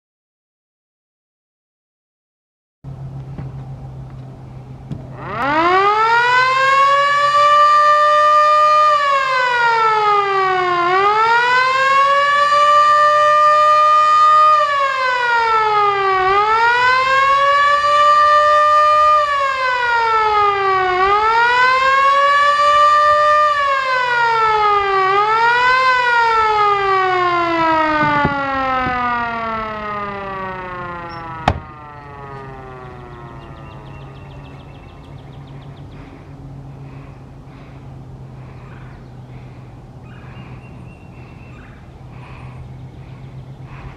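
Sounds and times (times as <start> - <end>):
motor siren wailing: 4.5 - 43.9.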